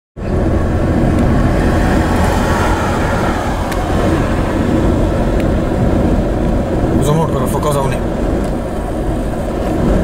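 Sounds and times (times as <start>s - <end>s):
car road and wind noise: 0.2s - 10.0s.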